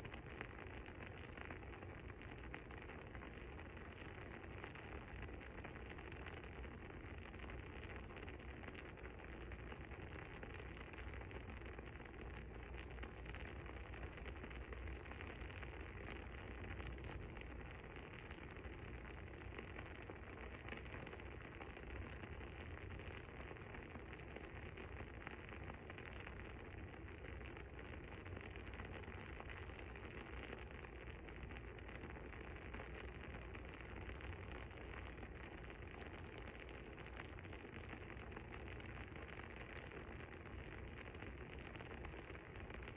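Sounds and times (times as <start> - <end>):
fire crackling: 5.4 - 42.9.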